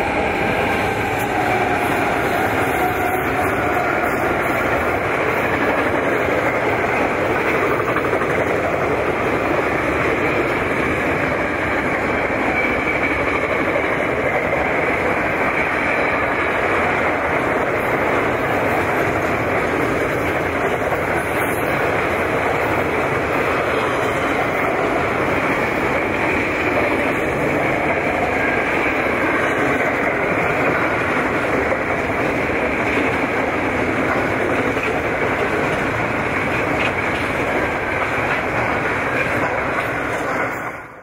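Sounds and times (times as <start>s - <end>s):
freight train wheels on rails: 0.0s - 41.0s.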